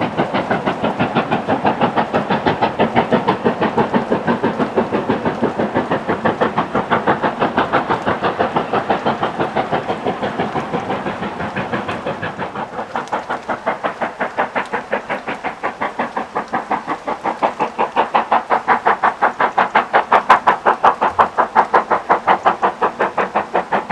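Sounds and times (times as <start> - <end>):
steam locomotive exhaust beating: 0.0 - 23.9.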